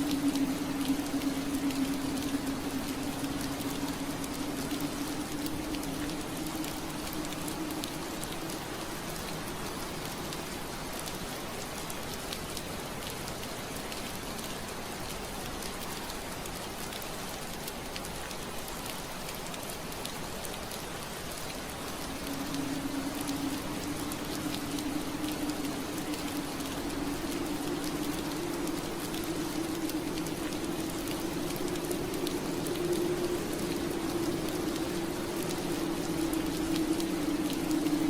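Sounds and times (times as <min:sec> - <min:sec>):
rain pattering on window glass: 0:00.0 - 0:38.0.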